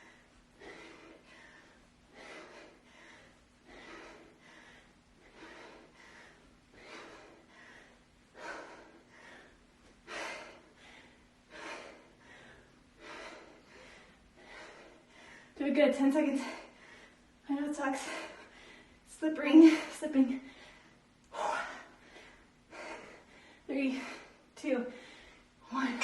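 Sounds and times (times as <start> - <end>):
woman's forceful breaths: 0.0 - 26.0.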